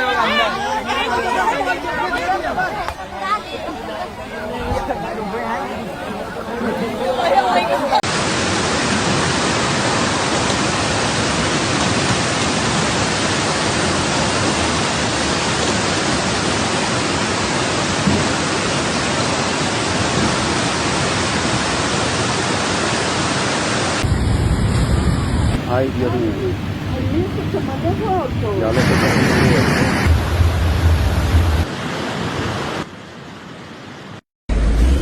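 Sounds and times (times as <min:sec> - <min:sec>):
loud rushing water: 0:00.0 - 0:35.0.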